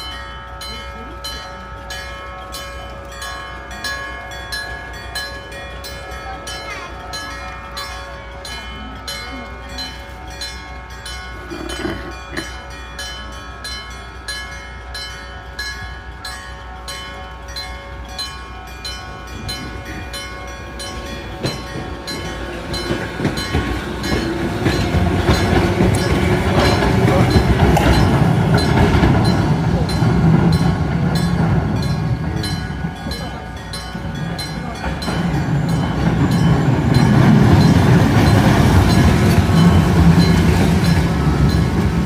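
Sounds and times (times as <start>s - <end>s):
level crossing bell ringing: 0.0s - 42.0s
tram running over crossing: 0.0s - 42.0s.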